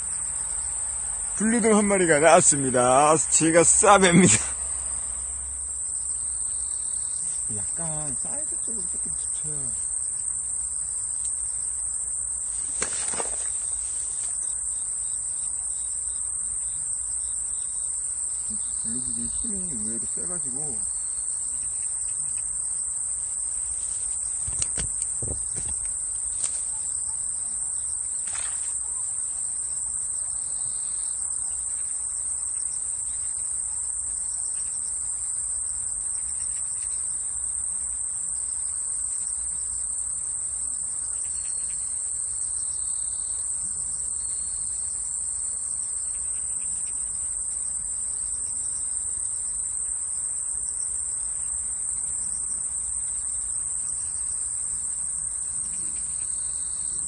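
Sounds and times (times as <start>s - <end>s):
insects singing in chorus: 0.0s - 57.0s.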